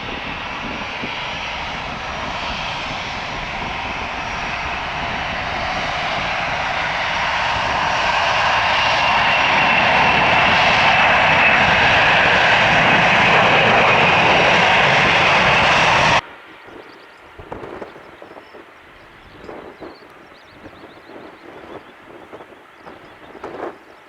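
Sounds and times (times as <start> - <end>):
jet engine high whine: 0.0 - 24.0.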